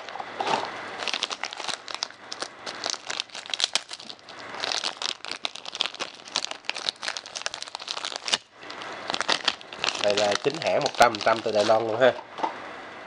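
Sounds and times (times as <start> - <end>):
plastic wrapping crinkling: 1.0 - 12.0.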